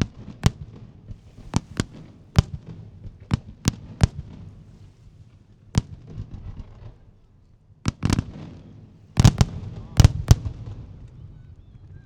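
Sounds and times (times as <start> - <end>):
fireworks bangs: 0.0 - 7.2, 7.9 - 12.0
faint fireworks crackle: 0.0 - 12.0.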